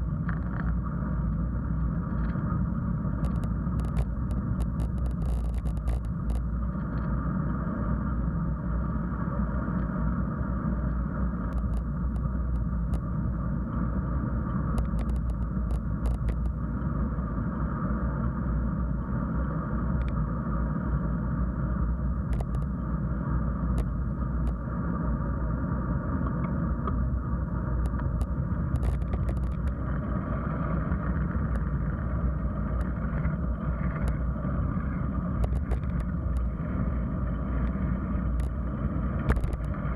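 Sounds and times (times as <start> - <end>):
bicycle tyre and wind noise: 0.0 - 39.9.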